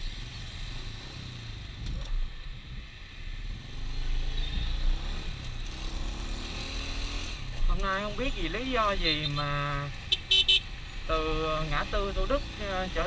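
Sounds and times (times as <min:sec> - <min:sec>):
motorbike engines in traffic: 0:00.0 - 0:13.0.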